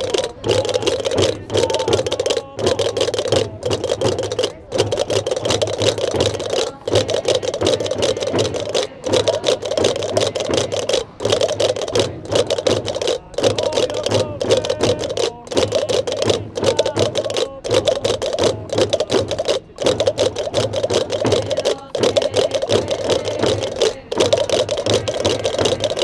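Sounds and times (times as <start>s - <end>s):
frame drums beaten with sticks: 0.0s - 26.0s
wooden castanets clattering: 0.0s - 26.0s.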